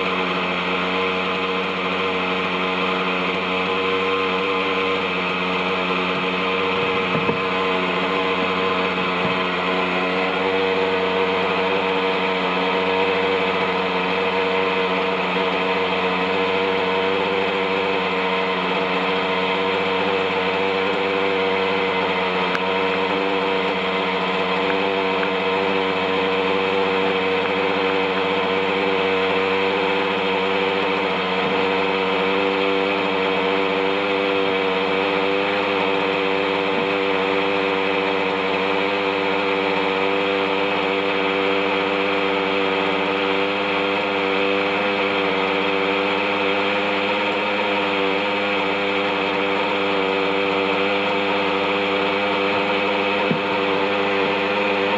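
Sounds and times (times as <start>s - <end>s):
helicopter rotor: 0.0s - 54.9s
model helicopter engine running: 0.0s - 54.9s.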